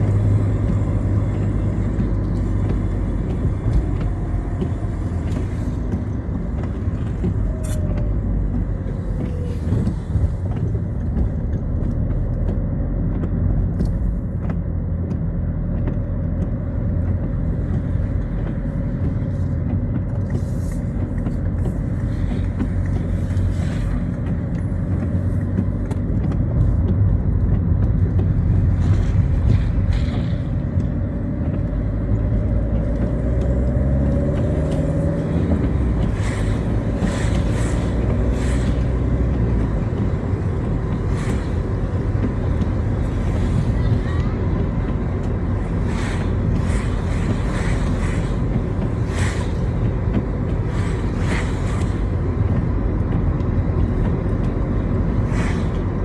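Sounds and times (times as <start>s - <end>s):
car engine and road rumble: 0.0s - 56.0s
tyres swishing through water: 0.0s - 56.0s.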